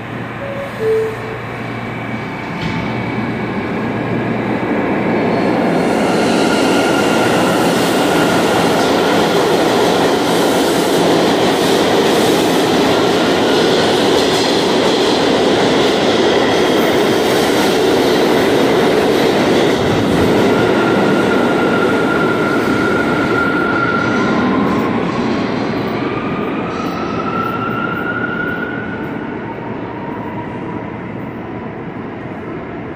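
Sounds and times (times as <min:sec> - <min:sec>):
subway train wheels rumbling on rail: 0:00.0 - 0:32.9.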